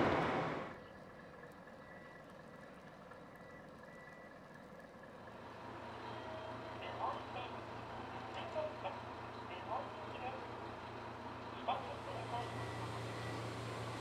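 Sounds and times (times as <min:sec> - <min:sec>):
diesel railcar idling: 0:00.0 - 0:14.0.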